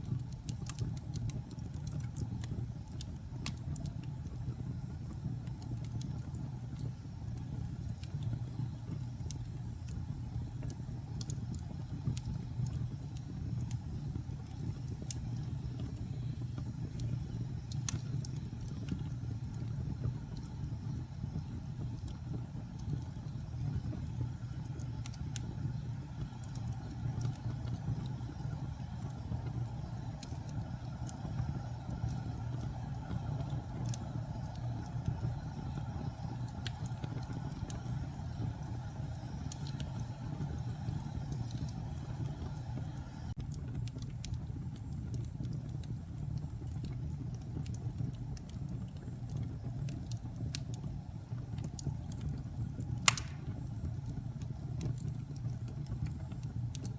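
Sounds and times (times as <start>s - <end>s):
fire crackling and popping: 0.0s - 56.9s
low rumble of flames: 0.0s - 56.9s.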